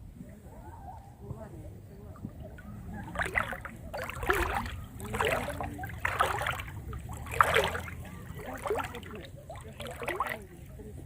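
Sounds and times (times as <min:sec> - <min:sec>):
water splashing: 0:02.1 - 0:11.0.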